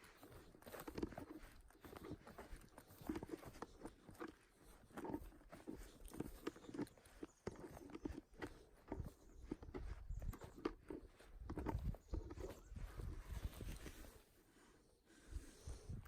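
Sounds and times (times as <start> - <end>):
footsteps on forest floor: 0.0 - 14.3.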